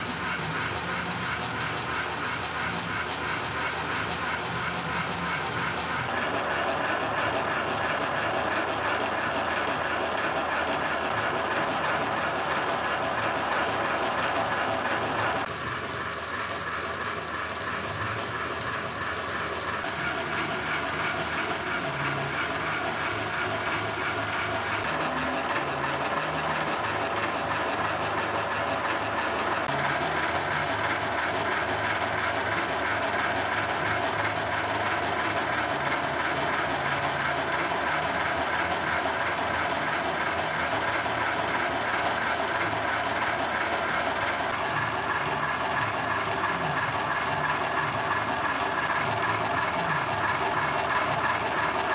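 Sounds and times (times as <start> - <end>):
milling machine whirring: 0.0 - 51.9.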